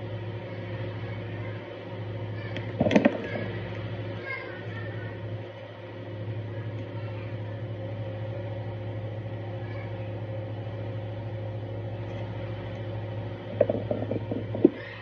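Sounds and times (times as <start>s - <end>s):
appliance electrical hum: 0.0s - 15.0s.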